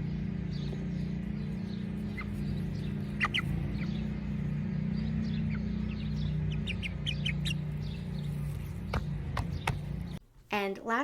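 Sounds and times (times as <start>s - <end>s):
chicks chirping: 0.0s - 10.2s
steady low hum: 0.0s - 10.6s.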